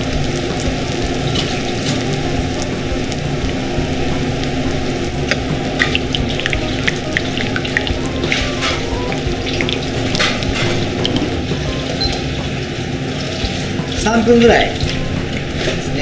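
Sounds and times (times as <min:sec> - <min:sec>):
oil popping and crackling: 0:00.0 - 0:16.0
oil sizzling in frying pan: 0:00.0 - 0:16.0.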